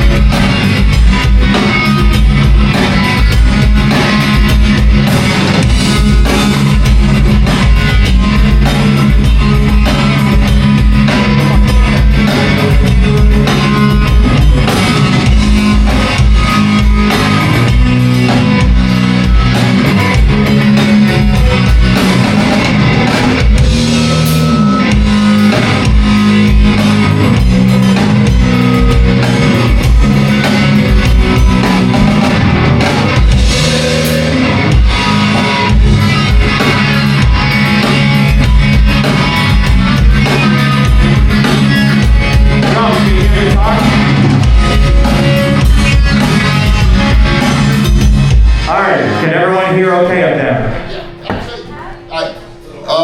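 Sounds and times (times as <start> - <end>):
rock band jamming: 0.0 - 53.0.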